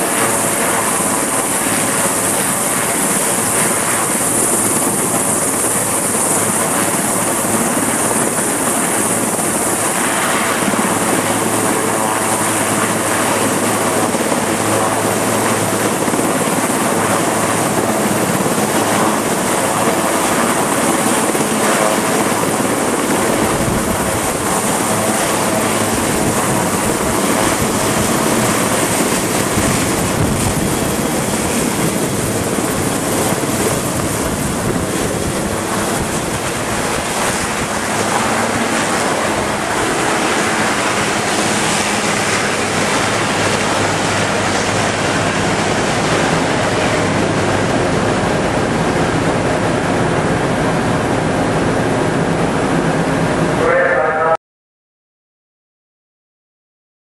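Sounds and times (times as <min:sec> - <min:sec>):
helicopter rotor and turbine: 0:00.0 - 0:54.3.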